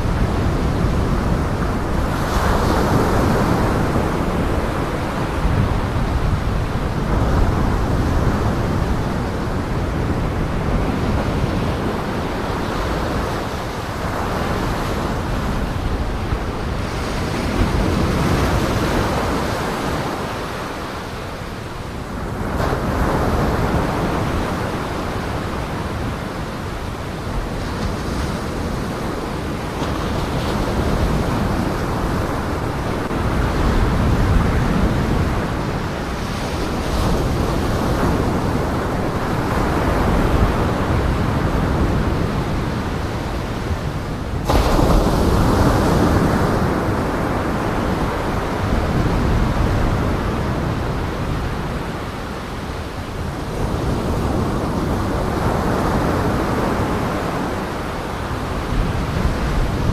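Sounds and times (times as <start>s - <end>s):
rushing outdoor noise: 0.0s - 59.9s.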